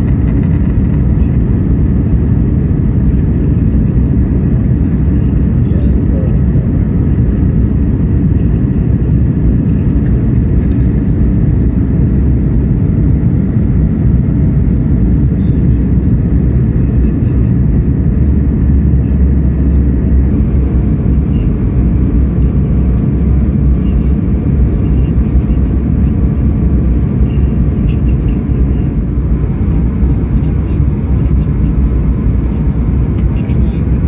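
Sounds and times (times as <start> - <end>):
aircraft cabin engine drone: 0.0 - 34.0.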